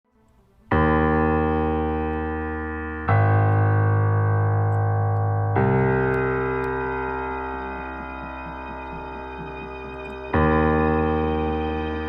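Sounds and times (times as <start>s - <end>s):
sustained keyboard chords: 0.2s - 12.0s.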